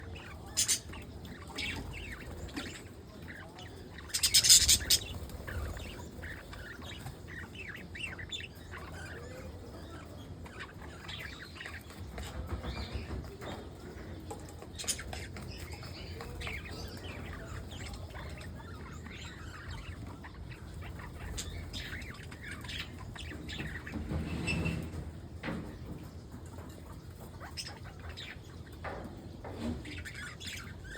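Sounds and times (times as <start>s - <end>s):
small birds chirping and twittering: 0.0s - 30.9s.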